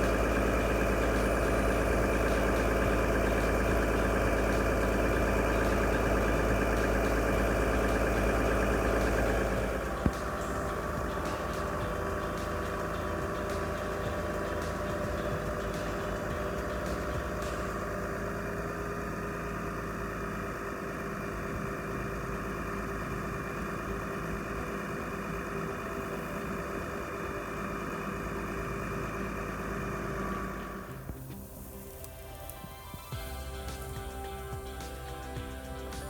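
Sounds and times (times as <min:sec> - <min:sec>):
large engine idling: 0:00.0 - 0:36.0.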